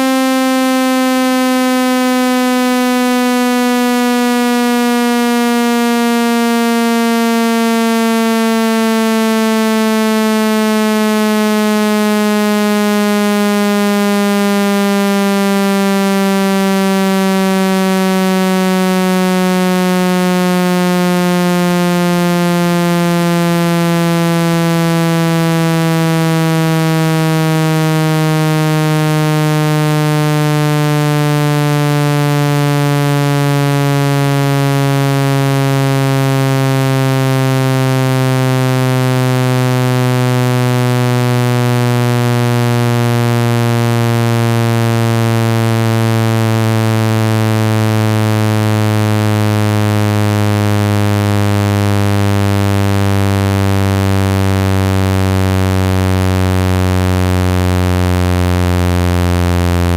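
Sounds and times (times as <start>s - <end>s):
low buzzing tone gliding downward: 0.0s - 59.9s.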